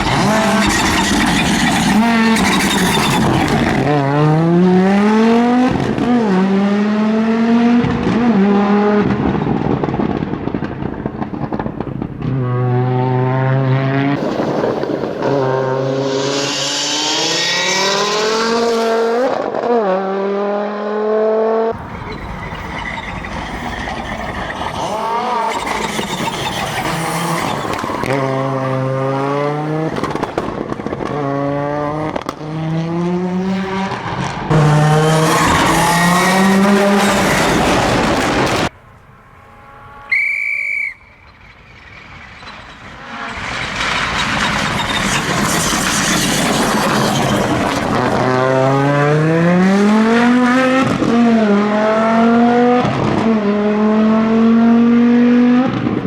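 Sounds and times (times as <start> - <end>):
rally car engine revving: 0.0 - 38.7, 42.5 - 56.0.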